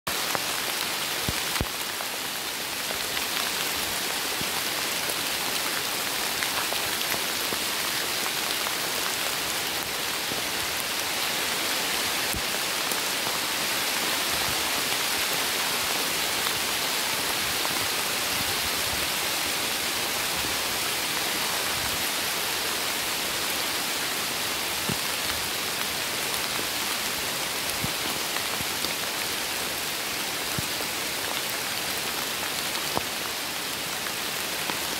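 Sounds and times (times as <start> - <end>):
rain falling on leaves: 0.1 - 34.9.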